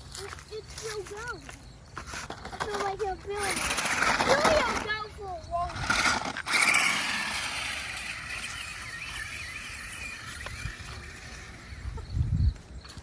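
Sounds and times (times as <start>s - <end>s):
toy truck electric motor whirring: 2.1s - 13.0s.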